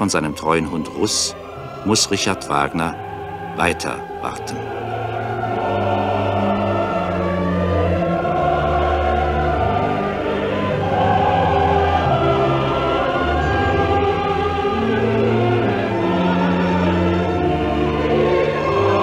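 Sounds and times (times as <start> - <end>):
opera chorus singing with orchestra: 0.0 - 19.0.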